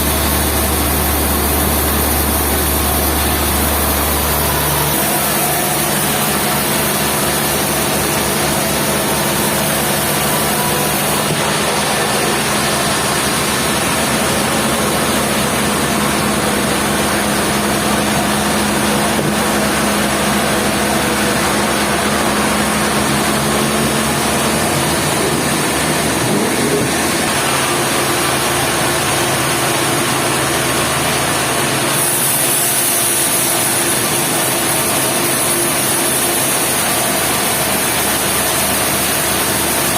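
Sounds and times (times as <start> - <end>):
sawmill machinery din: 0.0 - 39.9
steady hum: 0.0 - 39.9.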